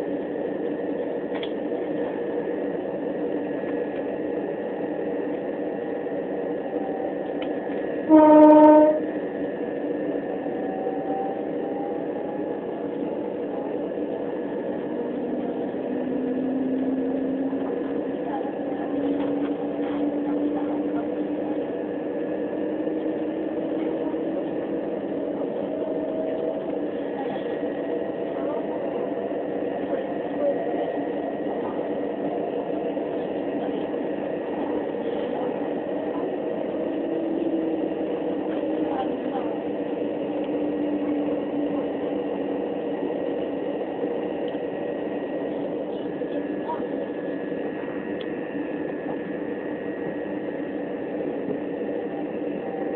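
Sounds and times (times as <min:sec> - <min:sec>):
train wheels rumbling on rail: 0:00.0 - 0:52.9
humming tones from running gear: 0:01.9 - 0:52.9.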